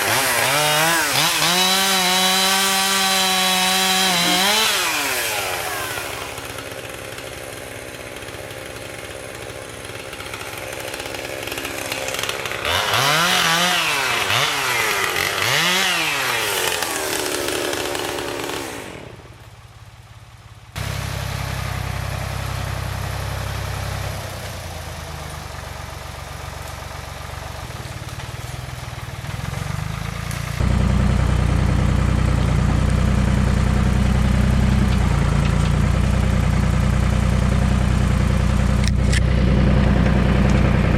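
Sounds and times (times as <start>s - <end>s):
chainsaw revving: 0.0s - 19.4s, 20.8s - 40.9s
tractor engine running: 0.0s - 40.9s.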